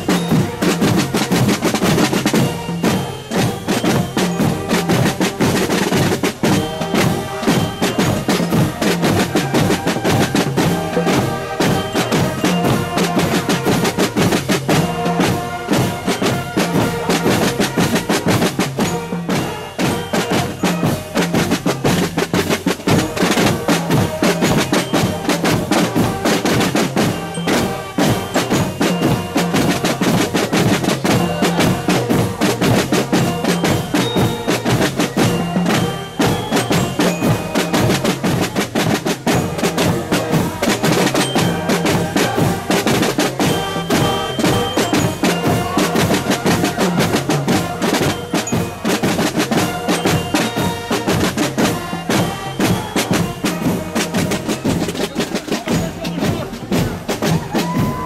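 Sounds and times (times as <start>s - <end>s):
hunting horns playing melody: 0.0s - 55.0s
snare and bass drums: 0.0s - 58.0s.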